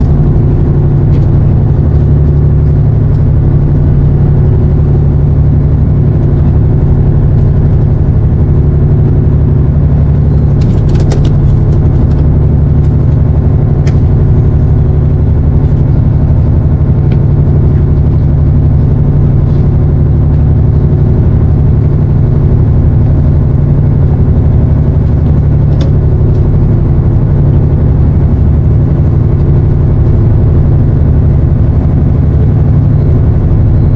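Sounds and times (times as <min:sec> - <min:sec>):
boat engine droning: 0:00.0 - 0:33.9.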